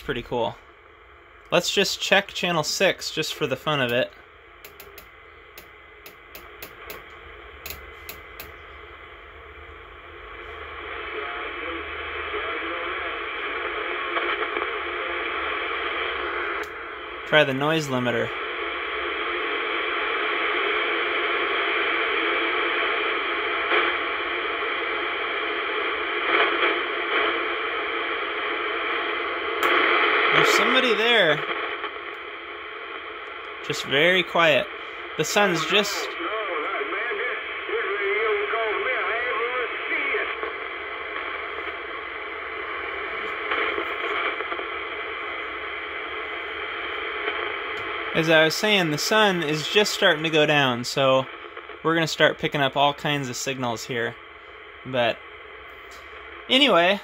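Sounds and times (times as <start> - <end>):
faint radio blips: 0.0 - 57.0
radio static hiss: 0.0 - 57.0.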